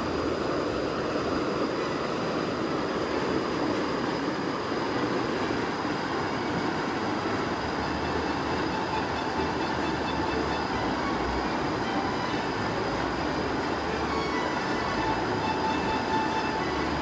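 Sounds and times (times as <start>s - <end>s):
water rushing over boulders: 0.0s - 17.0s.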